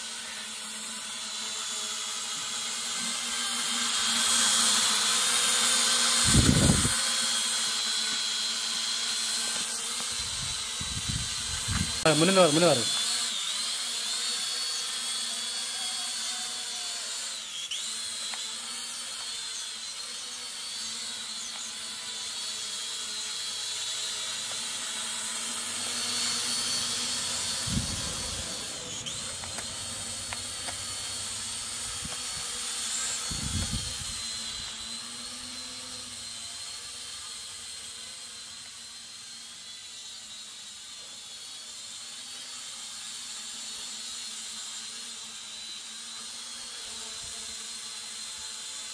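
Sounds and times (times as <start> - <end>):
drone propellers whining: 0.0 - 42.7.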